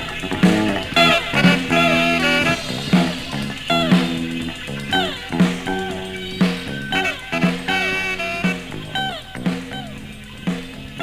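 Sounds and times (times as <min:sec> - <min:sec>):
pop song by a band: 0:00.0 - 0:11.0.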